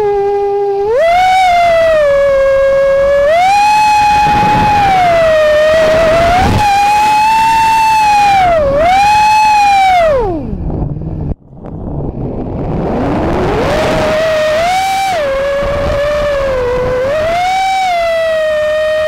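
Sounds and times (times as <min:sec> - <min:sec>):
drone motors whining: 0:00.0 - 0:19.0
rush of wind: 0:00.0 - 0:19.0.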